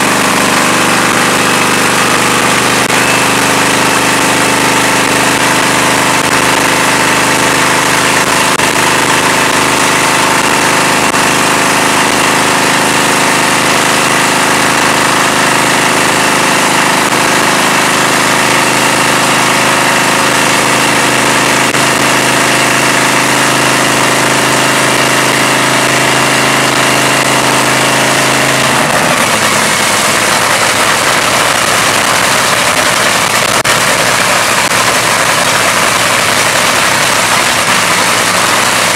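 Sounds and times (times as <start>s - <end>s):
dragster engine idling loud: 0.0s - 38.9s.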